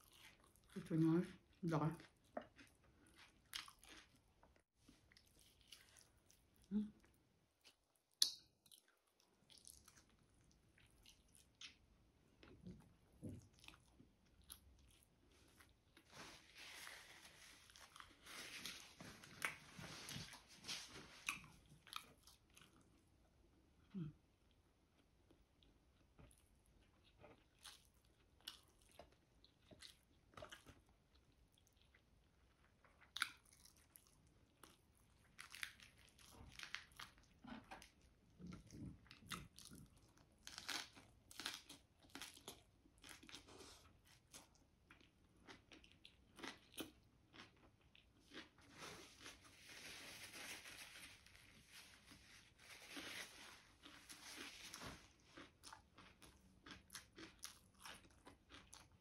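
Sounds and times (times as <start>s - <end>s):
chewing with crisp crunches: 0.0s - 49.6s, 52.8s - 59.0s.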